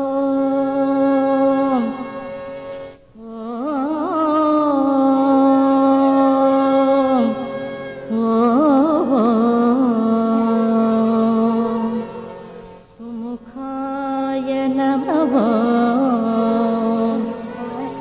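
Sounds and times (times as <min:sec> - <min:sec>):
woman singing devotional song: 0:00.0 - 0:18.0.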